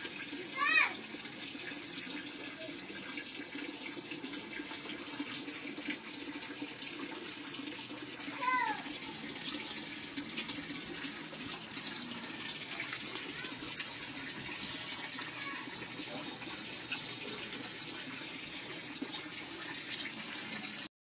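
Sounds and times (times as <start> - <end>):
running water splashing: 0.0 - 20.9.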